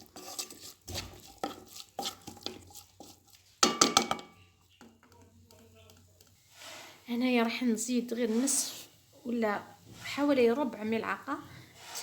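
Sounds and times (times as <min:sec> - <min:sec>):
utensil stirring in a pot: 0:00.0 - 0:12.0.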